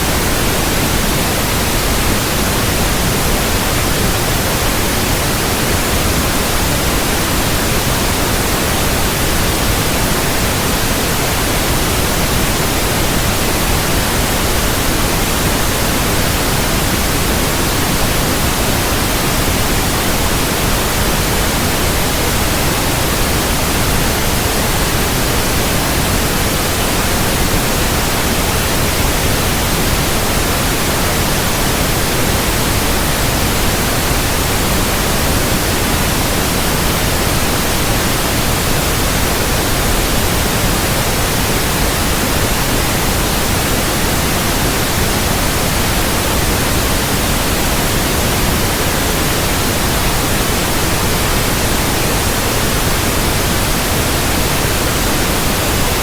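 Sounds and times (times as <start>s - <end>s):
white noise: 0.0s - 56.0s.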